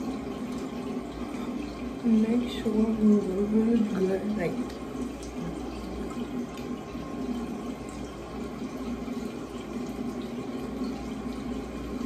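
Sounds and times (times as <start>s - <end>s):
sink tap running: 0.0s - 12.0s.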